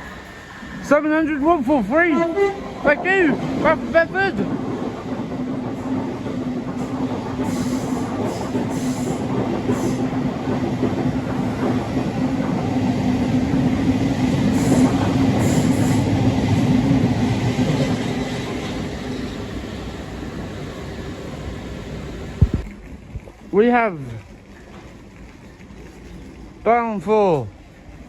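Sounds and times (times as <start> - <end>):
electric train passing: 0.0 - 26.7.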